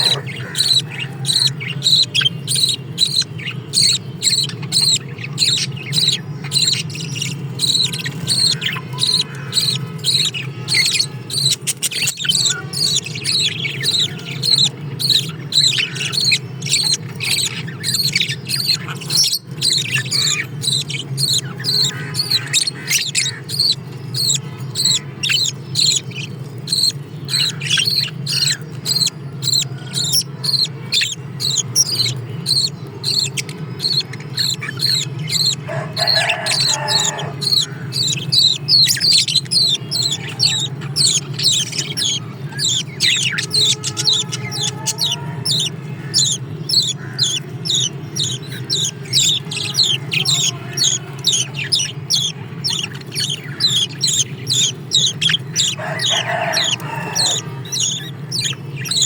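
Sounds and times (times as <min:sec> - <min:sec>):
small birds chirping: 0:00.0 - 0:59.0
steady low hum: 0:00.0 - 0:59.0.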